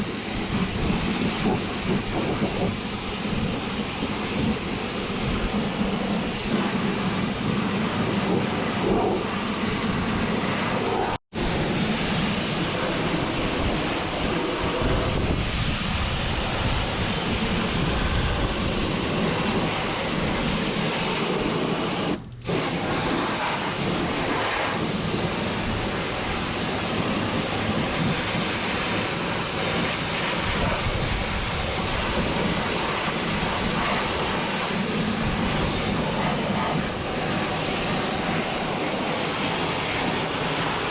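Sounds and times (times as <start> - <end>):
pressure washer spraying water: 0.0 - 40.9.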